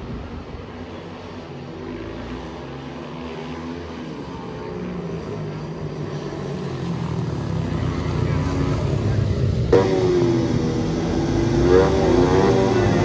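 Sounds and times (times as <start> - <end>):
motorcycles racing: 0.0 - 13.0.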